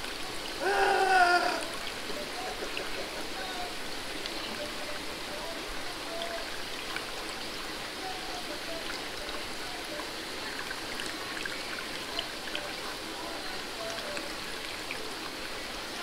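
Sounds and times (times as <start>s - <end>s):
water running and trickling: 0.0s - 16.0s.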